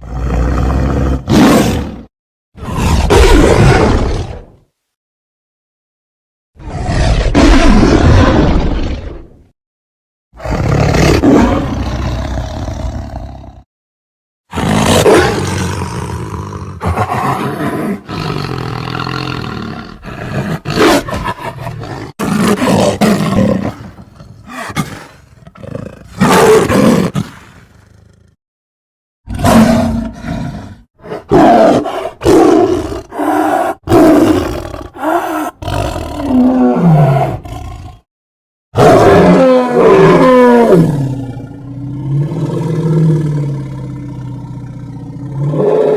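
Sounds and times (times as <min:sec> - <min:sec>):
cartoon lion roars and growls: 0:00.0 - 0:04.7, 0:06.6 - 0:09.5, 0:10.4 - 0:13.7, 0:14.5 - 0:28.4, 0:29.3 - 0:38.1, 0:38.7 - 0:45.9.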